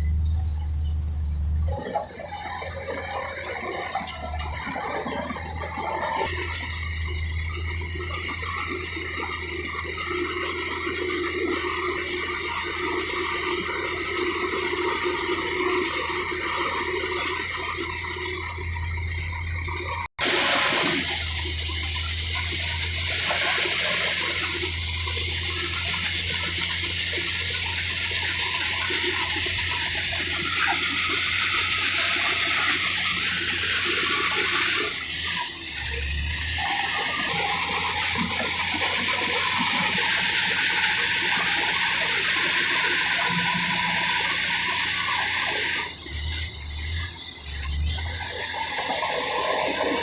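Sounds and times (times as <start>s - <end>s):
bulldozer diesel engine running: 0.0s - 50.0s.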